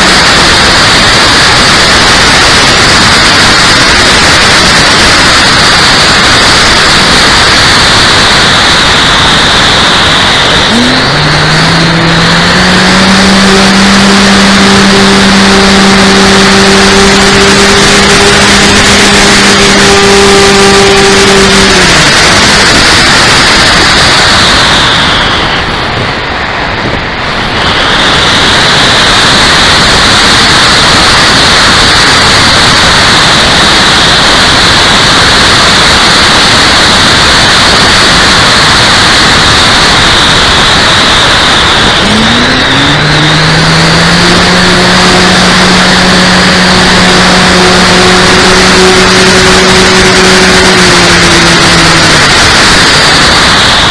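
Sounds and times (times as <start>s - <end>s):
electric motor and propeller whining: 0.0s - 53.9s
rush of air: 0.0s - 53.9s.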